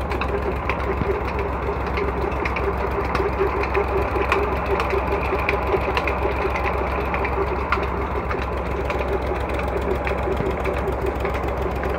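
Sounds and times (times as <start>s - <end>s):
tractor engine running steadily: 0.0s - 11.9s.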